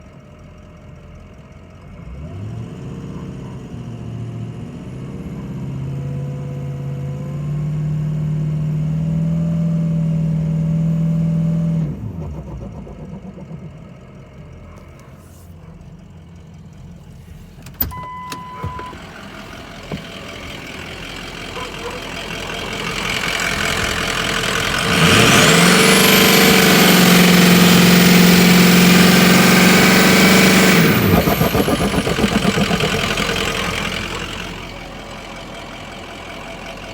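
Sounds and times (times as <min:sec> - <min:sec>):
diesel truck engine revving: 0:01.7 - 0:36.9.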